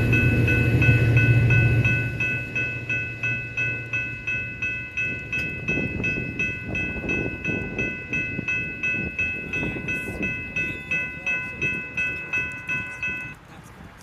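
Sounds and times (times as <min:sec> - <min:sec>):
crossing bell ringing: 0:00.0 - 0:13.4
low train rumble: 0:00.0 - 0:14.0.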